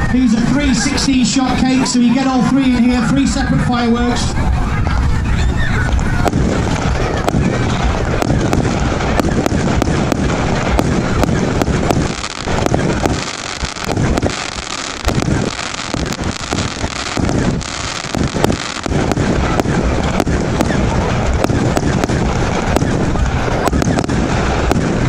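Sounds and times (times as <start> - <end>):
fireworks firing shots: 0.0 - 4.3, 5.8 - 25.0
wind buffeting microphone: 0.0 - 25.0.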